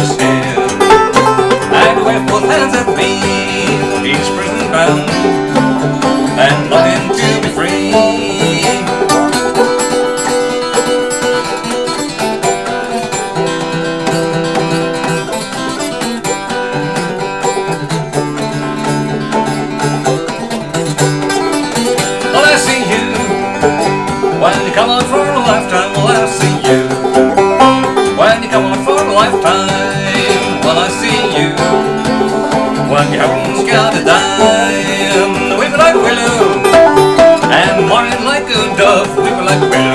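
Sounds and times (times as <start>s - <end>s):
acoustic guitar: 0.0s - 39.9s
banjo: 0.0s - 39.9s.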